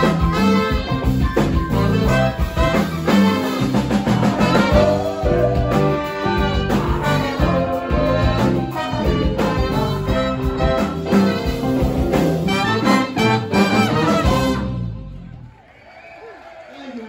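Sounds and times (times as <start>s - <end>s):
live band with horn section: 0.0s - 15.5s.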